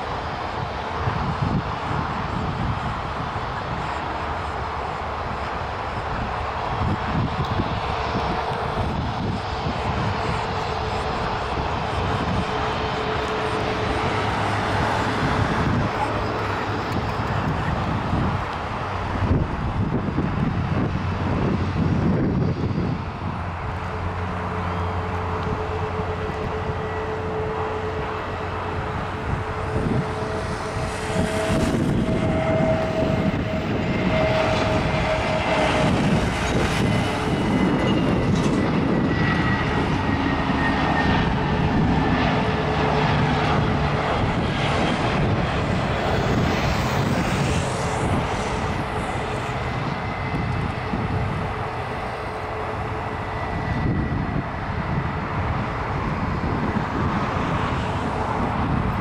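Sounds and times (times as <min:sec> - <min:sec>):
jet engines rushing and whining: 0:00.0 - 0:59.0.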